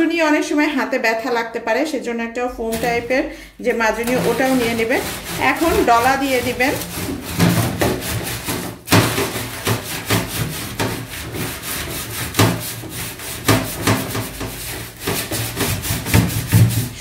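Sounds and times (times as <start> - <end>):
scourer scrubbing metal tray: 2.5 - 17.0.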